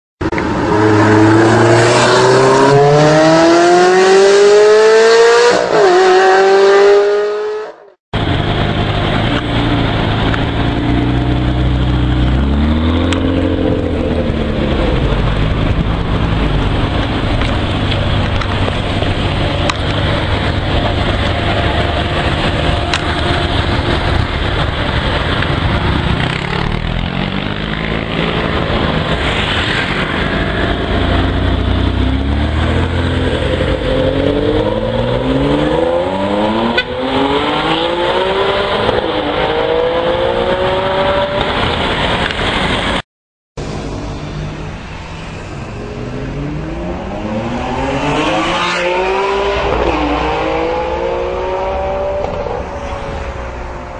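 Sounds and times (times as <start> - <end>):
engine accelerating hard: 0.4 - 43.0, 45.3 - 53.9.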